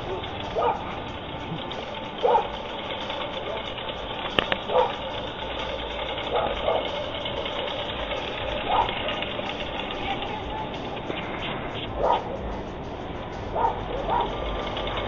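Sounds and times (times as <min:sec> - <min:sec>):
reel mower blades whirring: 0:00.0 - 0:15.0.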